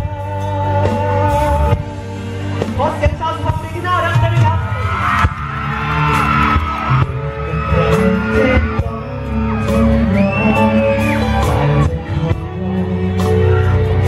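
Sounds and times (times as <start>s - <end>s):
person singing: 0.0s - 2.8s, 5.4s - 14.0s
live pop band through pa: 0.0s - 14.0s.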